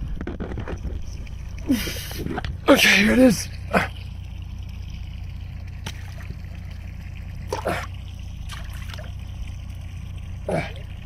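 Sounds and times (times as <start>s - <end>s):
steady low hum: 0.0s - 11.0s
sea water splashing: 0.6s - 11.0s.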